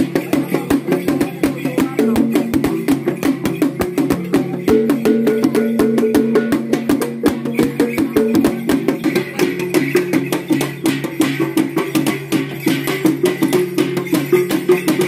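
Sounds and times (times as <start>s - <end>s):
pitched percussion melody: 0.0s - 15.0s.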